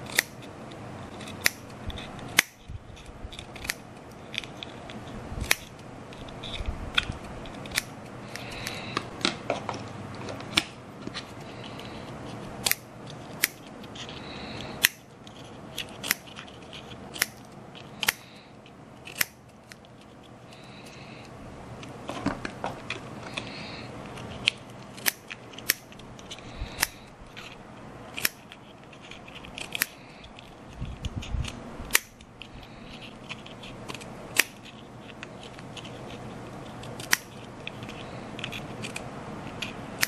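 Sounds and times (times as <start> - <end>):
scissors snipping: 0.0 - 9.4, 10.4 - 18.4, 19.0 - 19.9, 22.9 - 40.0.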